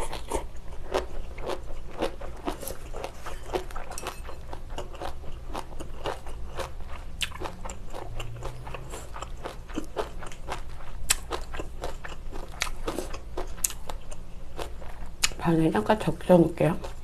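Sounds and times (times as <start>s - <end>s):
person chewing food: 0.0s - 15.4s, 16.8s - 17.0s.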